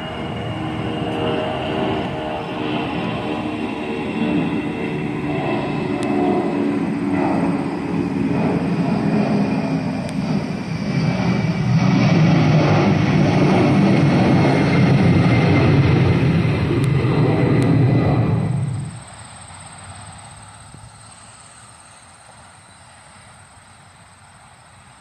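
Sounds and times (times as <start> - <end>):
airliner engines rumbling: 0.0 - 25.0.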